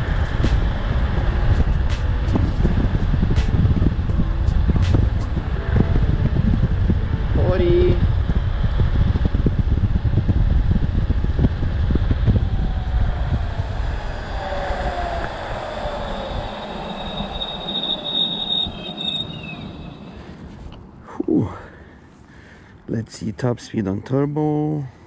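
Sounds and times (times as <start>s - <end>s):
electric scooter motor whine: 0.0s - 7.4s, 8.0s - 20.8s
high thin whine: 0.0s - 21.0s
wind rushing over microphone: 0.0s - 21.0s.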